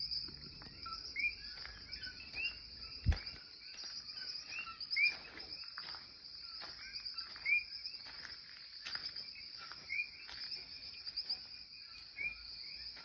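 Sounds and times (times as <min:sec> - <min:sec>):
insects buzzing: 0:00.1 - 0:13.0.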